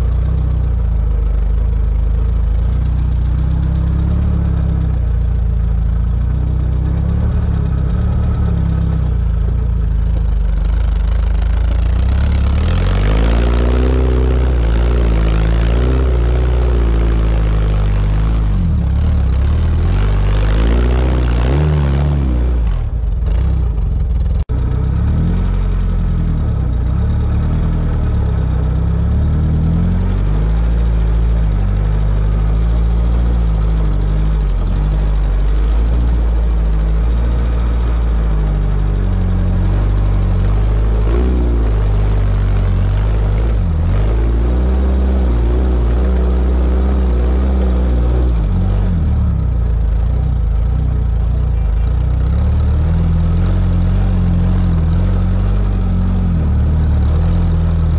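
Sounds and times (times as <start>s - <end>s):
car engine running at low revs: 0.0s - 57.9s.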